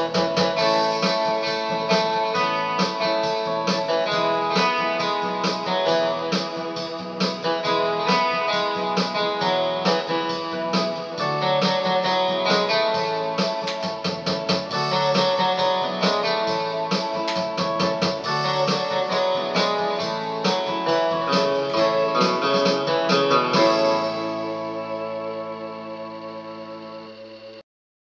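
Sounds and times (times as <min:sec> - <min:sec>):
rhythmic accompaniment: 0:00.0 - 0:27.4
keyboard guitar-like instrumental: 0:00.0 - 0:27.6.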